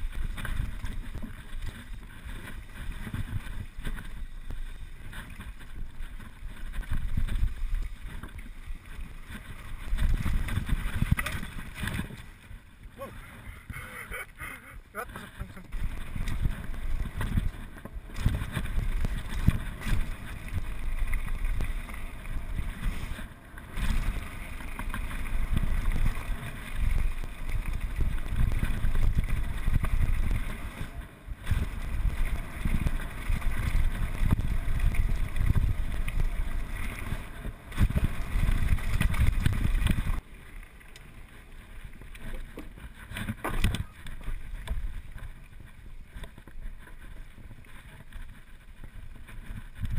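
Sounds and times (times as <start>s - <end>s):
mountain bike rattling on gravel: 0.0s - 13.0s, 14.4s - 49.9s
wind buffeting microphone: 0.0s - 13.9s, 15.6s - 40.2s, 42.4s - 49.9s.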